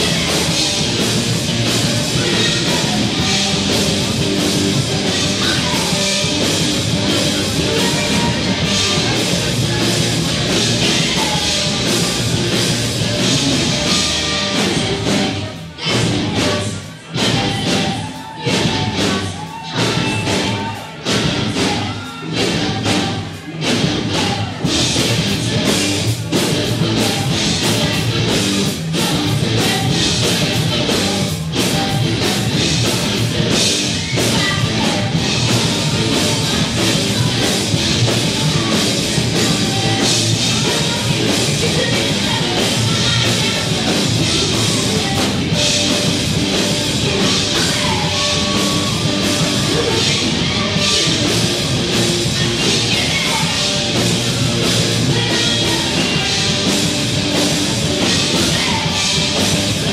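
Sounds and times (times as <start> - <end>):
woman singing: 0.0 - 25.8, 26.5 - 59.9
drum kit: 0.0 - 59.9
electric guitar: 0.0 - 59.9.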